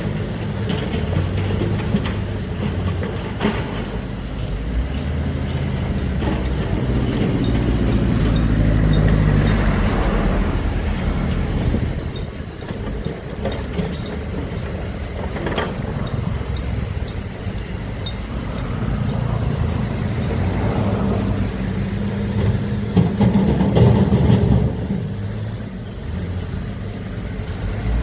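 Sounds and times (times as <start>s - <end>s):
diesel engine under load: 0.0s - 28.0s
sharp metallic knocks: 0.6s - 28.0s.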